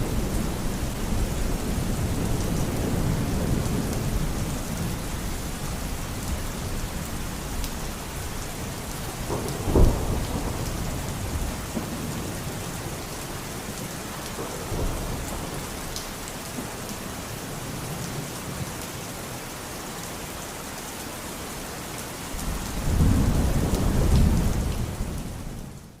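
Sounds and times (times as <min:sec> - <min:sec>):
low rumble of thunder: 0:00.0 - 0:18.3, 0:22.4 - 0:26.0
steady rain: 0:00.0 - 0:26.0.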